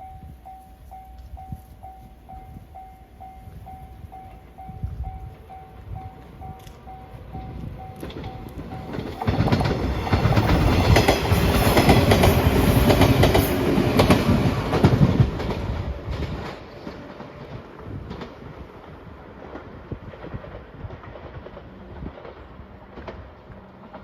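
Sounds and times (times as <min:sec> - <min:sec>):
train wheels clacking on rails: 0:00.0 - 0:24.0.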